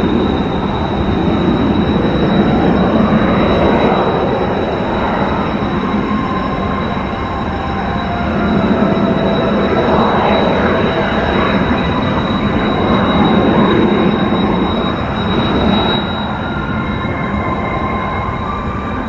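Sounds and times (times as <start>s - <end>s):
high jet engine whine: 0.0s - 19.0s
jet engine roaring: 0.0s - 19.0s.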